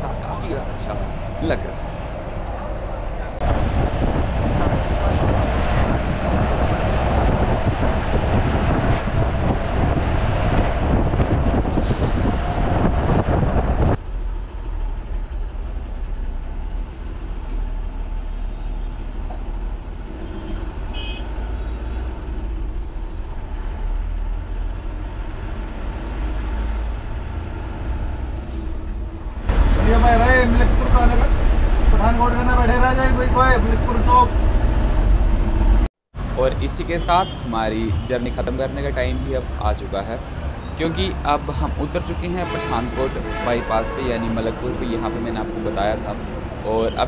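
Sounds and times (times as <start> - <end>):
bus engine rumble: 0.0 - 47.0
wind and road noise: 0.0 - 47.0.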